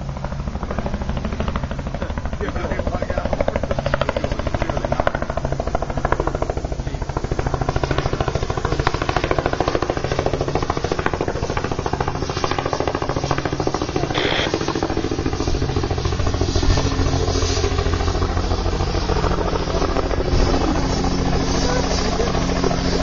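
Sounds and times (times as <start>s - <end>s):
helicopter rotor chopping: 0.0s - 23.0s.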